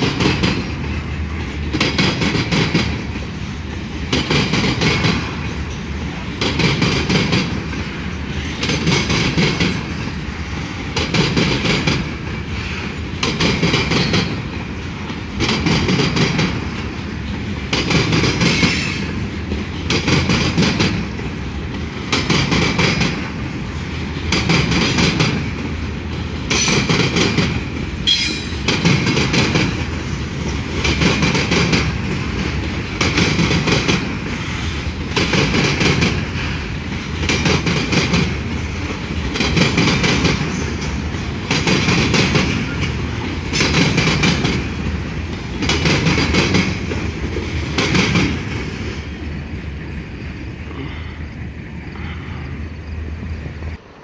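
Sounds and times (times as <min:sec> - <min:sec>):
train wheels clacking over rail joints: 0:00.0 - 0:50.0.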